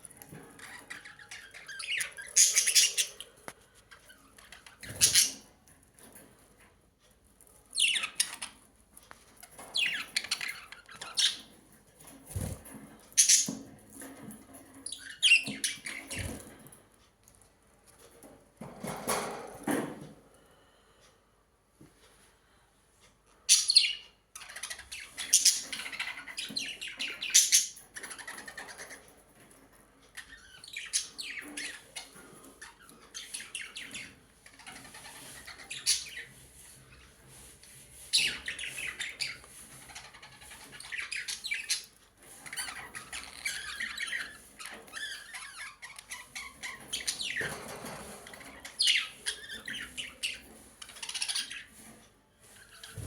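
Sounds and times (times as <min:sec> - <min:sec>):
birds chirping and squawking: 0:00.0 - 0:06.4, 0:07.6 - 0:16.9, 0:23.4 - 0:53.0.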